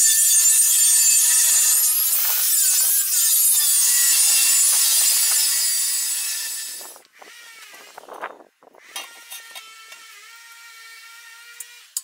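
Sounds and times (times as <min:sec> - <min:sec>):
angle grinder cutting steel: 0:00.0 - 0:07.9, 0:08.9 - 0:12.0.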